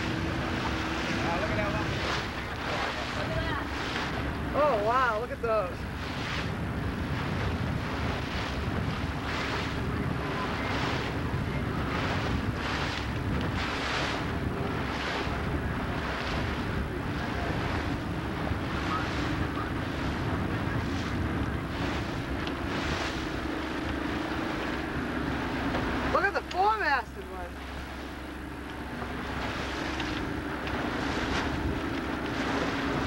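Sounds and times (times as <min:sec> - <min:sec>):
wind noise: 0:00.0 - 0:26.2, 0:27.6 - 0:33.0
motorboat engine droning: 0:00.0 - 0:33.0
rushing water: 0:00.0 - 0:33.0.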